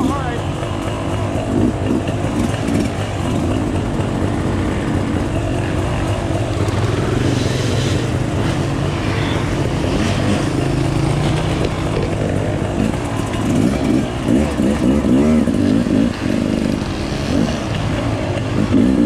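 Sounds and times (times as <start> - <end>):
dirt bike engines running: 0.0 - 19.0.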